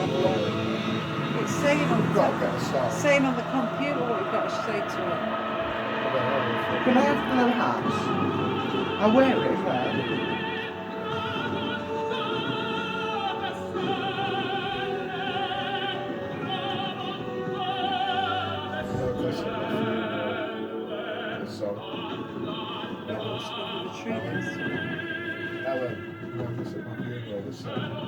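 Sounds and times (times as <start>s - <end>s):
operatic singing with orchestra: 0.0s - 28.0s.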